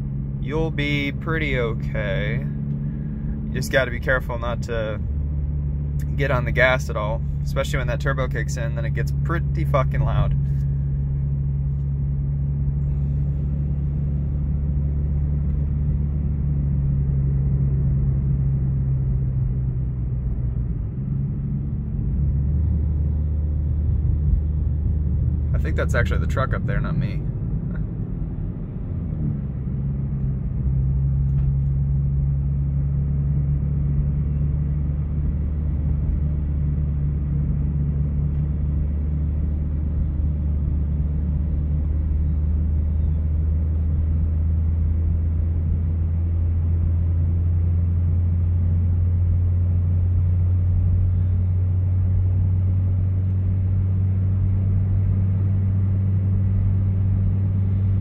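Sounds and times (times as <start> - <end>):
car engine and exhaust drone: 0.0 - 58.0
road noise: 0.0 - 58.0.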